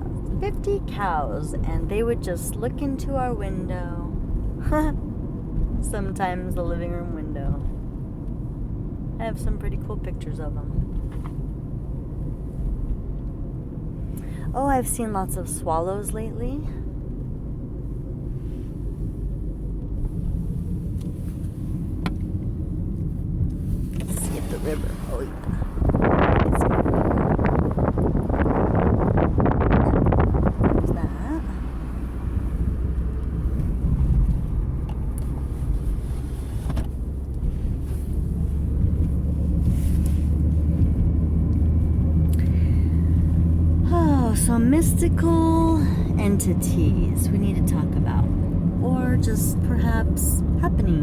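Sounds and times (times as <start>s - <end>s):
car driving on highway: 0.0s - 51.0s.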